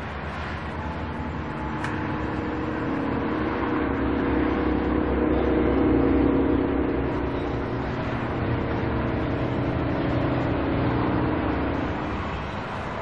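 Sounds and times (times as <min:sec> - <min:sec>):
car engine running inside cabin: 0:00.0 - 0:13.0.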